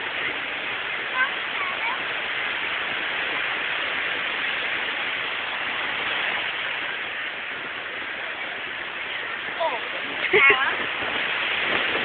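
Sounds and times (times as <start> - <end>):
rushing beach ambience: 0.0 - 12.0.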